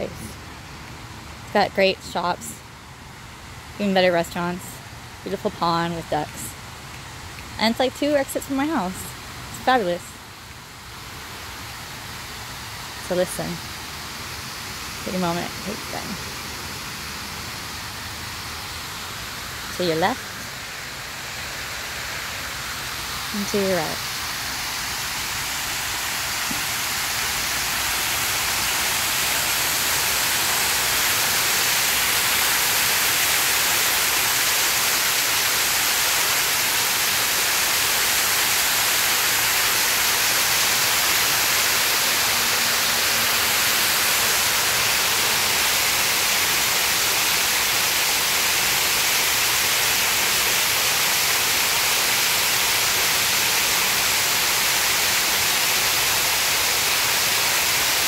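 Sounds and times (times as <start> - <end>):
splashing water feature: 0.0 - 58.0.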